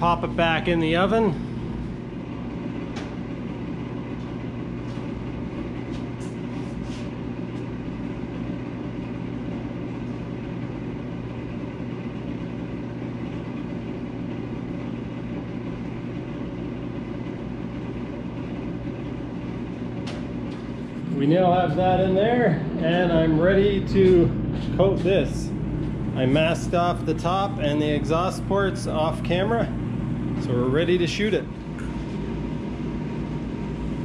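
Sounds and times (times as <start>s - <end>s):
ventilation fan drone: 0.0s - 34.0s.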